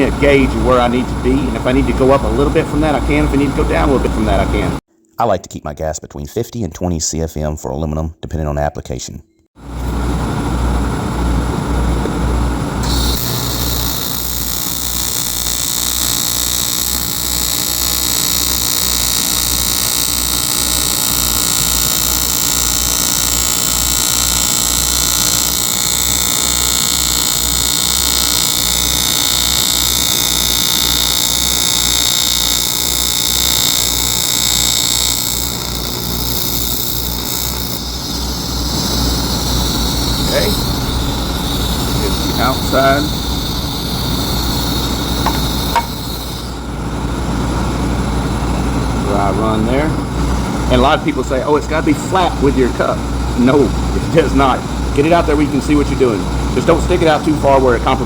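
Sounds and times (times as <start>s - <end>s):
pulsing low hum: 0.0s - 4.8s, 9.6s - 58.0s
welding arc hiss and buzz: 0.0s - 4.8s, 9.6s - 58.0s.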